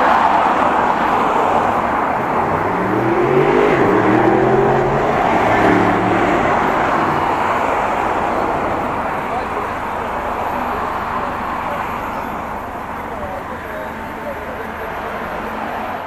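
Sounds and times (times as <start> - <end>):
bus driving past: 0.0 - 16.0
road traffic noise: 0.0 - 16.0.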